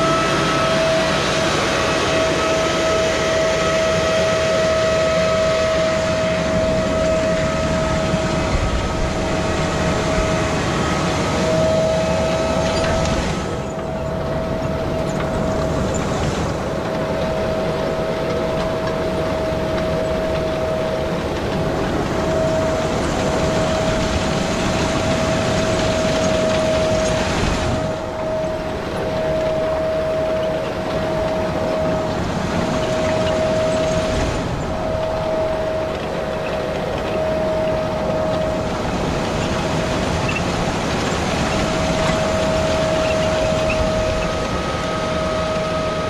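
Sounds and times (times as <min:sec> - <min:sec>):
high constant whine: 0:00.0 - 0:46.0
tractor engine running: 0:00.0 - 0:46.0.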